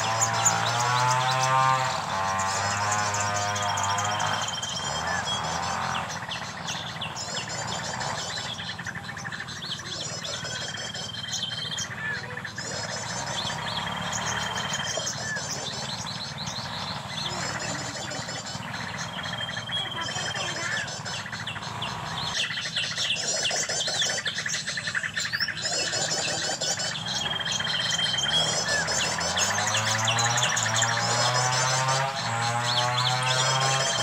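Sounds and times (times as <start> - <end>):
bird whistling and chittering trills: 0.0 - 34.0.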